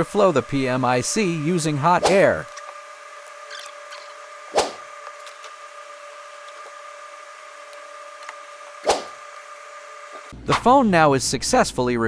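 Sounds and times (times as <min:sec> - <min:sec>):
hot air blower hissing: 0:00.0 - 0:10.3.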